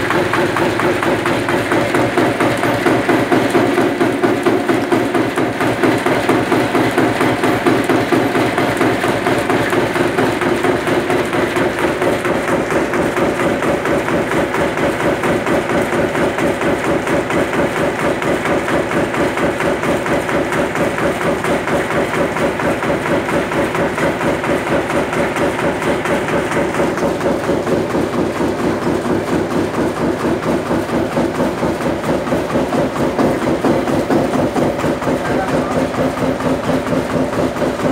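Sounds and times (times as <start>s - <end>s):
machine pounding strokes: 0.0s - 37.9s
steady machine hum: 0.0s - 37.9s.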